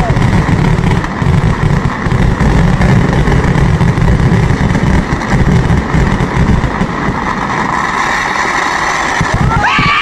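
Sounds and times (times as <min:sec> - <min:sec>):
firecracker blasts rumbling: 0:00.0 - 0:10.0.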